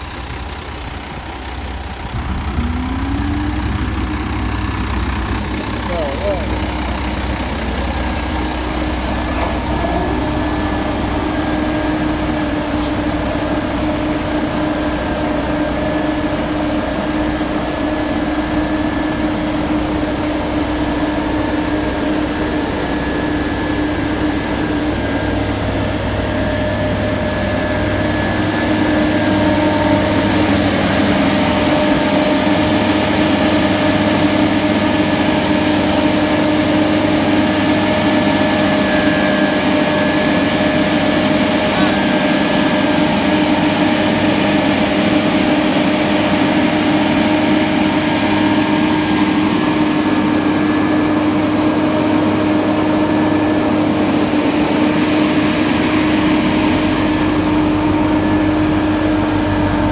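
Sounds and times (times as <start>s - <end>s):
paving machinery and trucks droning: 0.0s - 59.9s.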